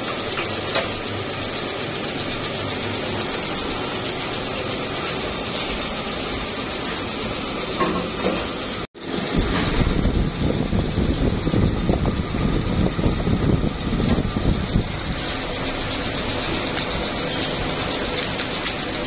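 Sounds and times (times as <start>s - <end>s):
injection-moulding machinery running: 0.0s - 19.0s.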